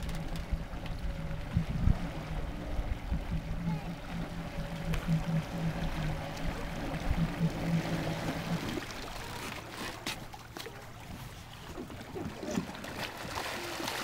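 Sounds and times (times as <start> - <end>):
jet ski engine humming: 0.0 - 14.0.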